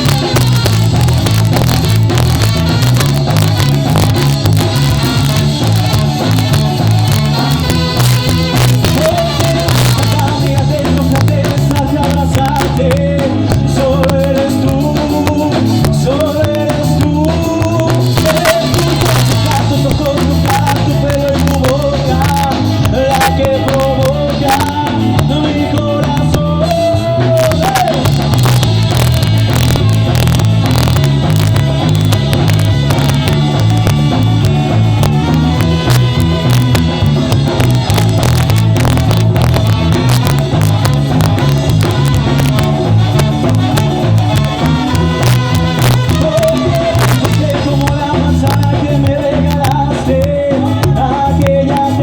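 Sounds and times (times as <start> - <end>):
bass and drum beat: 0.0 - 52.0
ska band playing: 0.0 - 52.0
wavering melodic lead line: 0.0 - 52.0.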